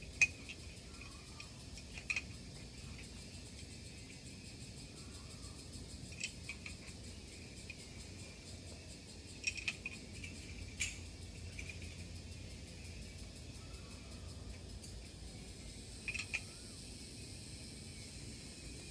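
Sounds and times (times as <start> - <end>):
climbing gear clinking: 0.0 - 16.7
insects droning: 0.0 - 18.9.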